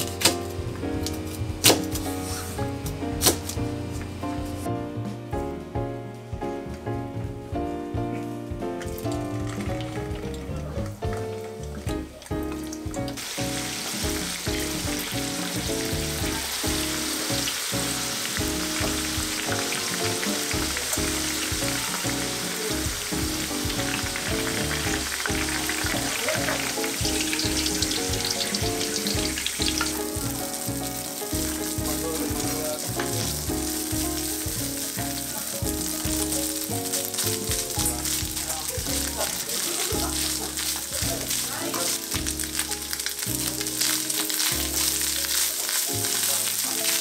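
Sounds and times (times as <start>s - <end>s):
food sizzling in oil: 0.0s - 4.7s, 11.1s - 47.0s
background music with beat: 0.0s - 46.8s.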